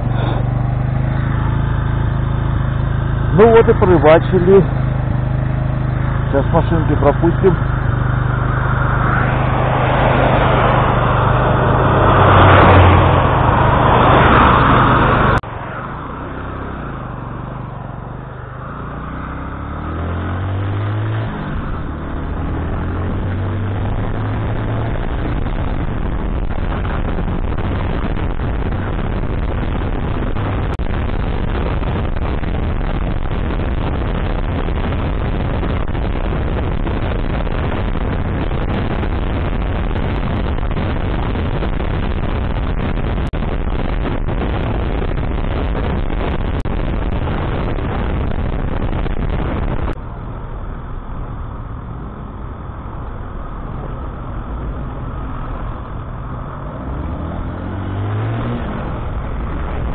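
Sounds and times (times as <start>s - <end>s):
cars passing on wet road: 0.0s - 59.9s
motorcycle engine: 0.0s - 59.9s
wind and road noise: 0.0s - 59.9s.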